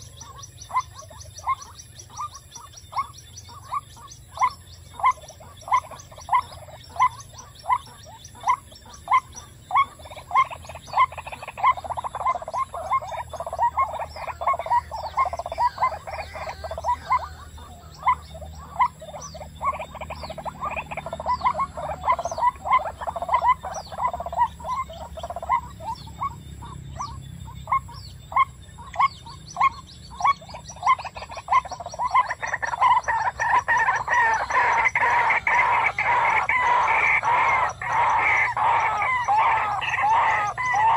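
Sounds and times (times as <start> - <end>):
waterhen croaking calls: 0.0 - 40.9.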